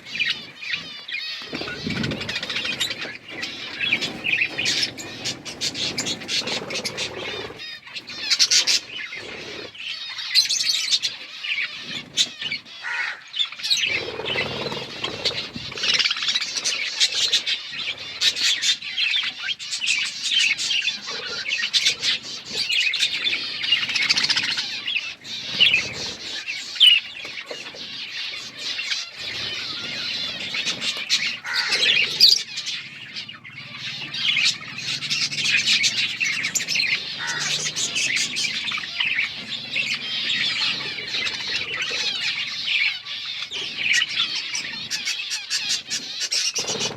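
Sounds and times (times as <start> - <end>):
parrots chirping and chattering: 0.0 - 46.9
wings fluttering: 0.0 - 46.9.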